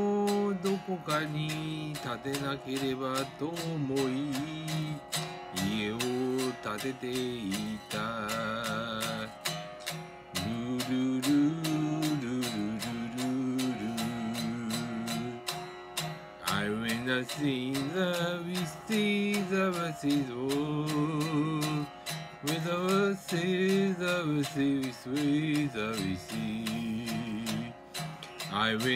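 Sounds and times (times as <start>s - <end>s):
man singing: 0.0s - 15.8s, 16.4s - 28.9s
electric guitar strumming: 0.0s - 28.9s.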